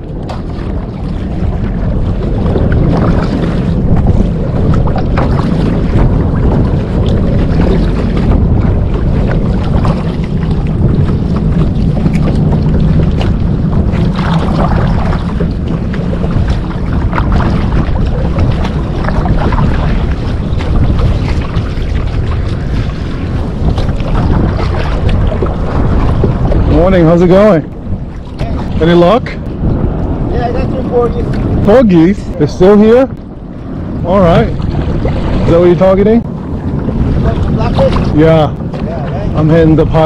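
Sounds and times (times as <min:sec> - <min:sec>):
water sloshing around kayak: 0:00.0 - 0:40.0
wind buffeting microphone: 0:00.0 - 0:40.0.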